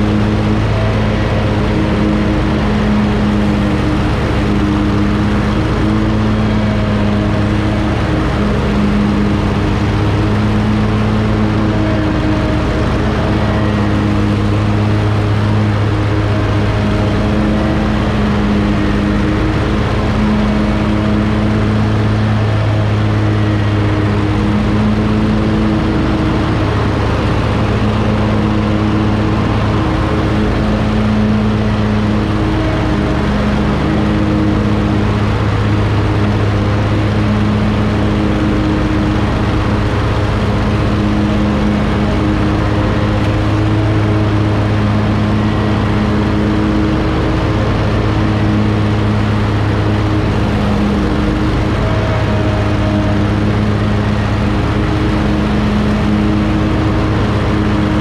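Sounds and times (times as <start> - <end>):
lawn mower cutting grass: 0.0 - 58.0.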